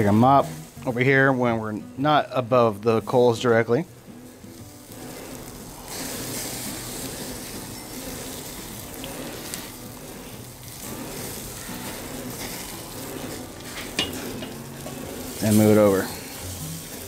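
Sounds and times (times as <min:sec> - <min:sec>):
chicken sizzling on grill: 0:00.0 - 0:17.0.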